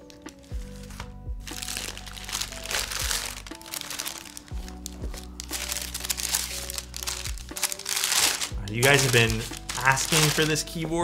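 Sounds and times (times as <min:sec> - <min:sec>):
paper crinkling and rustling: 0:00.0 - 0:10.8
background music: 0:00.0 - 0:11.0.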